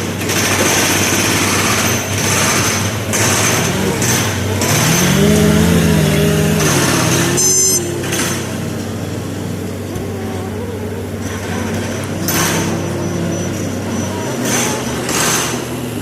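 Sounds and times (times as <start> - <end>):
diesel machinery engine running: 0.0 - 16.0.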